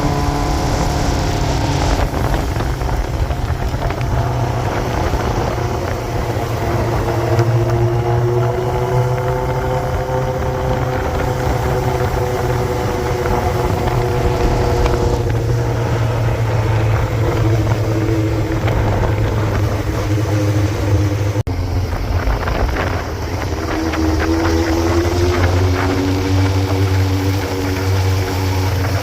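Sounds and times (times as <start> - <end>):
motorcycle engine running: 0.0 - 29.0
wind on microphone: 0.0 - 29.0.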